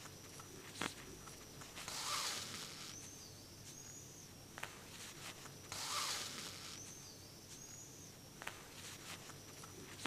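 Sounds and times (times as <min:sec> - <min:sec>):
thread hissing through fabric: 0:00.0 - 0:04.0, 0:04.6 - 0:10.0.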